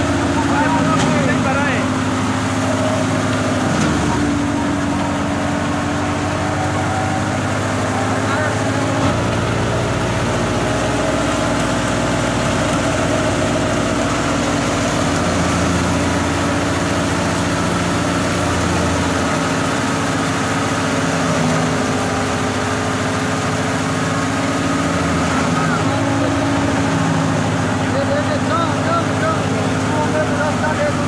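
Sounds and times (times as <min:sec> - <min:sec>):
wheat thresher running: 0:00.0 - 0:31.0.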